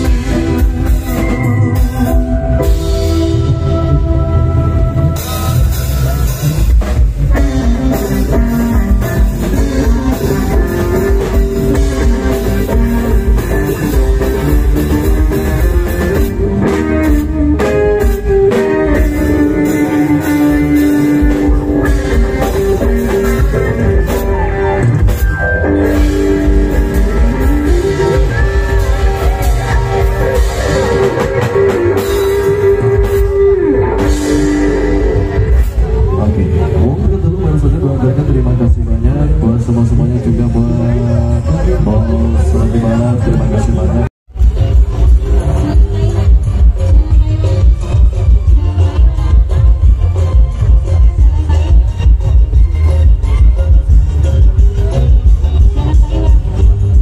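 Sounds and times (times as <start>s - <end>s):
loud music over sound system: 0.0s - 57.0s.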